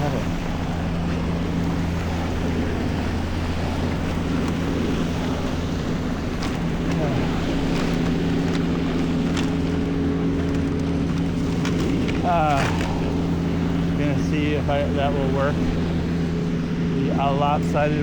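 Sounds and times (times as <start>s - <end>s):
city traffic rumble: 0.0s - 18.0s
nearby vehicle engine running: 0.0s - 18.0s
wind buffeting microphone: 0.0s - 18.0s.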